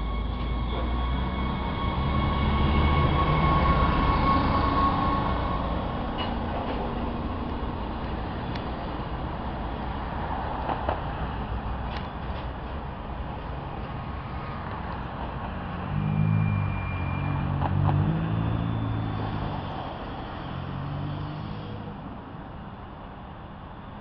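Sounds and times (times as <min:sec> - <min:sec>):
railcar engine rumble: 0:00.0 - 0:24.0.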